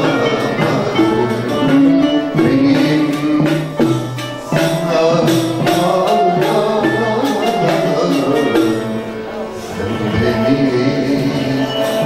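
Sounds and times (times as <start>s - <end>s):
kanun playing: 0.0s - 12.0s
man singing: 0.0s - 12.0s
percussion strokes: 0.0s - 12.0s.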